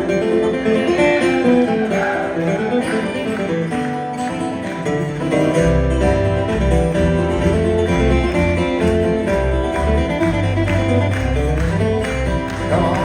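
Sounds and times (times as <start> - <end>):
acoustic guitar flatpicking: 0.0 - 13.0.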